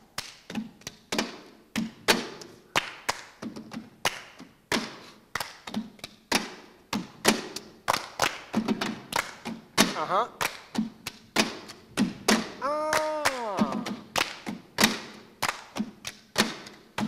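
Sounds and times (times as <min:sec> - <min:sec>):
tin cans struck rhythmically: 0:00.1 - 0:17.0.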